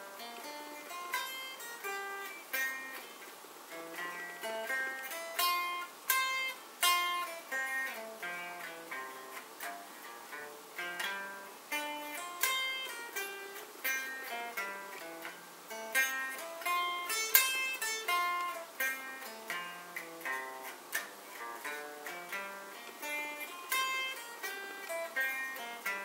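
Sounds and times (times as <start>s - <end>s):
electric guitar arpeggio: 0.0s - 26.0s.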